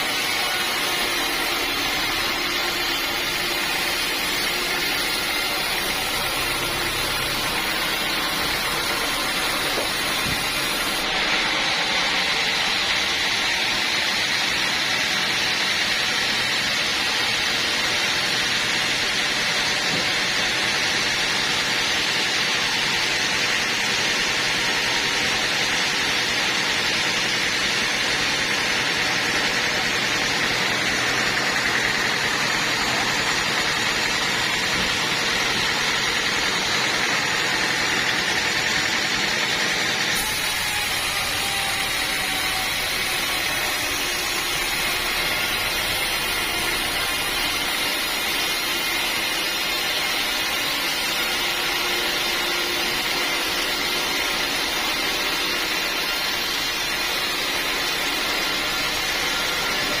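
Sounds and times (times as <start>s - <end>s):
sawmill machinery whirring: 0.0s - 60.0s.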